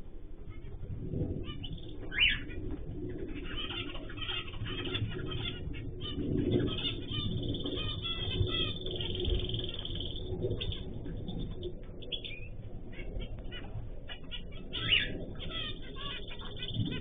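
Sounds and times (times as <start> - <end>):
cage birds chirping: 1.4 - 17.0.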